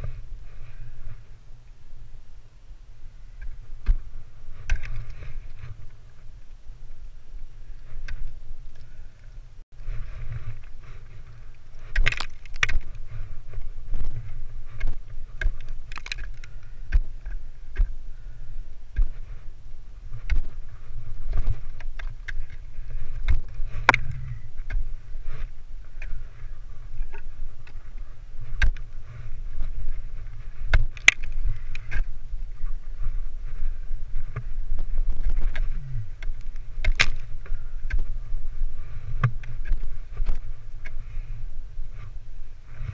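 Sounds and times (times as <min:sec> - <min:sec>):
low steady rumble: 0:00.0 - 0:42.9.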